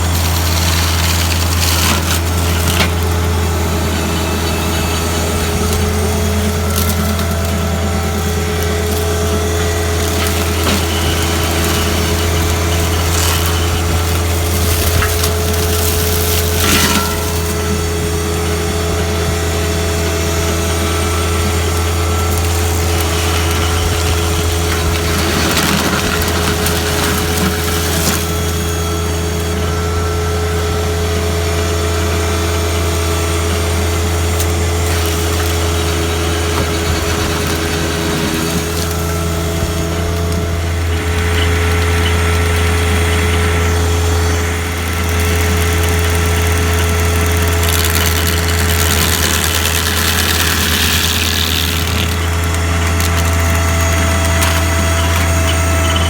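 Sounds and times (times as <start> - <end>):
stump grinder engine running: 0.0 - 56.0.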